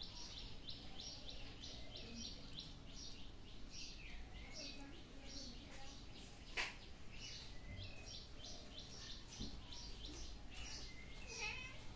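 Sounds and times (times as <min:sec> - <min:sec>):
small bird chirping: 0:00.0 - 0:11.9.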